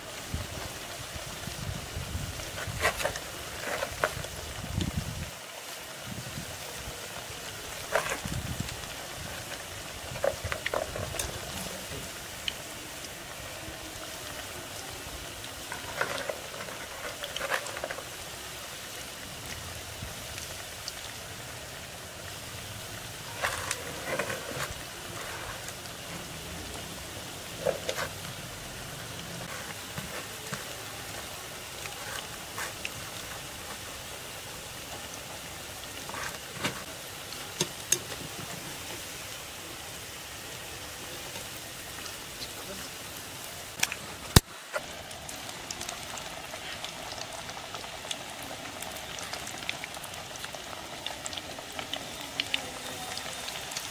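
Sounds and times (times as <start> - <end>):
food deep-frying in hot oil: 0.0 - 53.9
oil crackles: 0.0 - 53.9.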